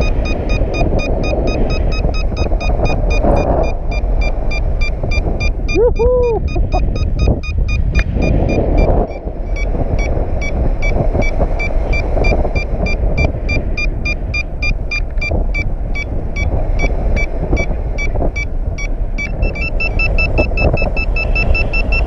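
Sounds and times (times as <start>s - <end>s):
variometer beeping: 0.0s - 22.0s
wind rushing on microphone: 0.0s - 22.0s.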